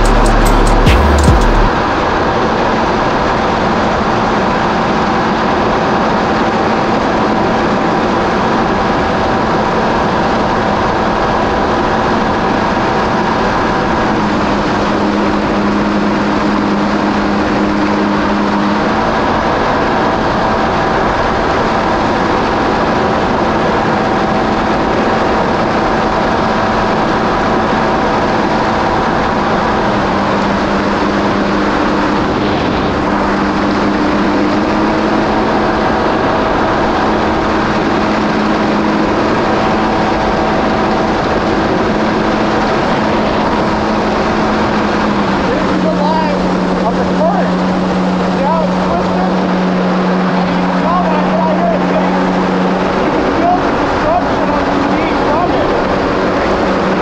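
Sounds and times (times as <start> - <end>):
jet ski engine running: 0.0 - 57.0
wind and water rushing: 1.8 - 57.0.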